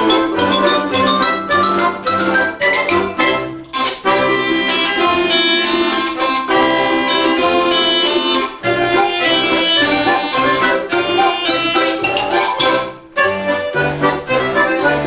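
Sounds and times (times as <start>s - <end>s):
accordion chords: 0.0s - 15.0s
folk instrument ensemble playing: 0.0s - 15.0s.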